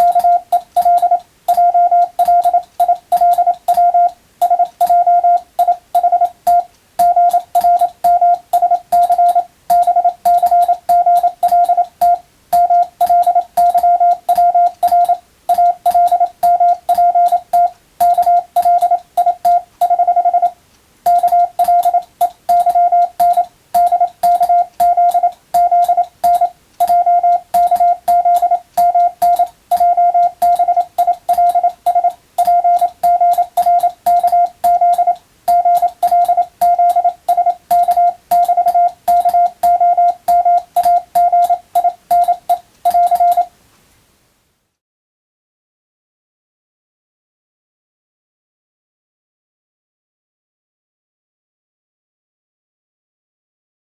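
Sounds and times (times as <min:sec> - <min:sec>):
morse code beeps: 0:00.0 - 0:43.5.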